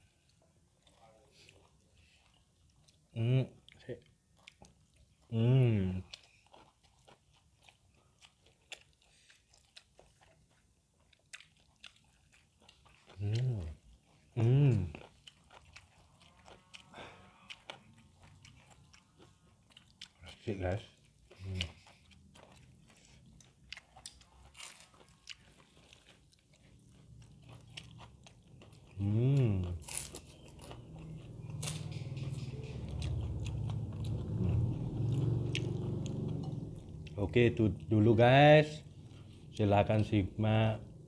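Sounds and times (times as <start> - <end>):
chewing and crunching food: 0.0 - 41.0.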